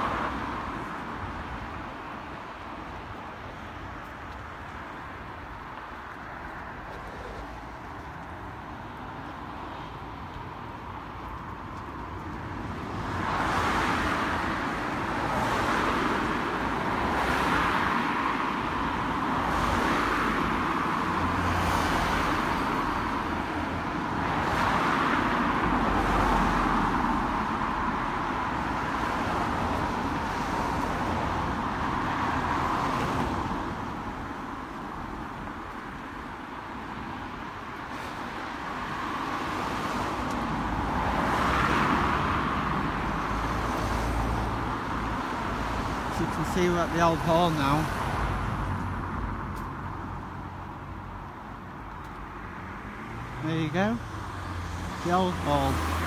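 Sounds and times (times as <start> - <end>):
cars passing on a street: 0.0 - 56.0.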